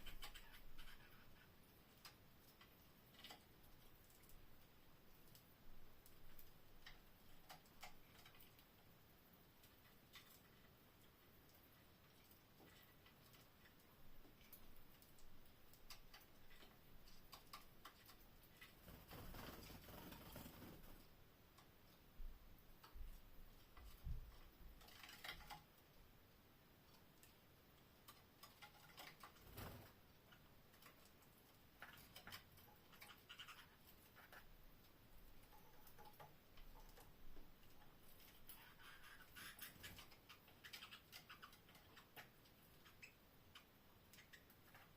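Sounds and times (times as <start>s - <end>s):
birds pecking and moving in cage: 0.0s - 44.9s.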